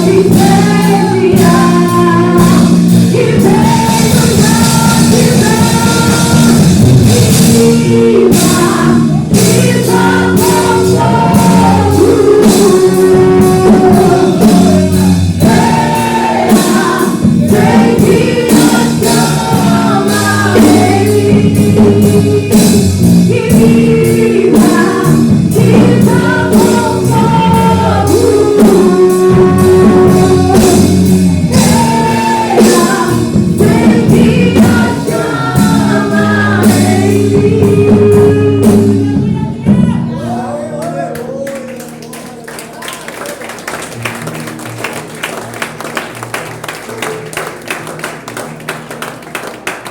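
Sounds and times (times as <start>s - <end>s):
steady drum beat: 0.0s - 41.0s
voices singing held notes: 0.0s - 41.7s
band instruments playing: 0.0s - 49.9s.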